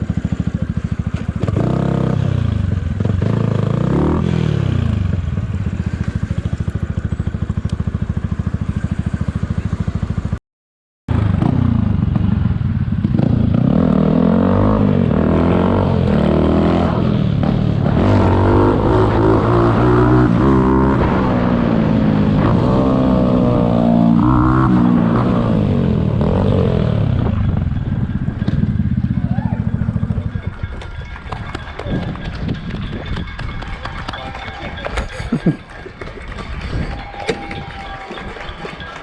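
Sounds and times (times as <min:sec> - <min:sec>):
motorcycle engine accelerating: 0:00.0 - 0:10.4, 0:11.1 - 0:34.2.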